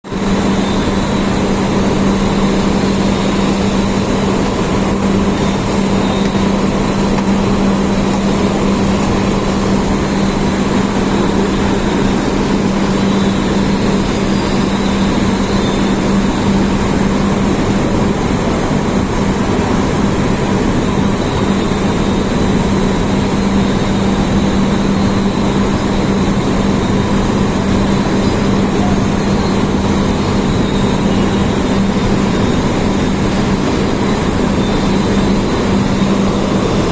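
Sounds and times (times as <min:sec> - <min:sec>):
loud industrial roar: 0:00.0 - 0:36.9
strong low hum: 0:00.1 - 0:36.9.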